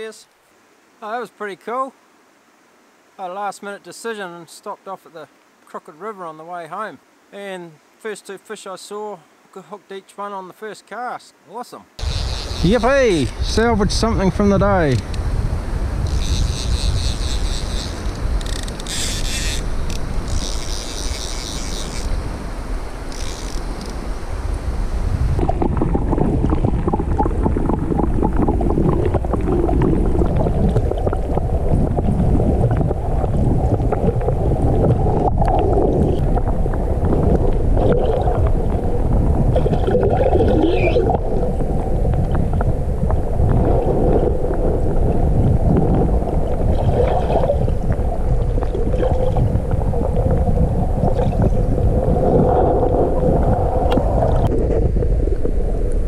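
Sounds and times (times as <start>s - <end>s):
muffled river water rushing: 0.0s - 10.5s, 11.3s - 16.6s, 17.4s - 56.0s.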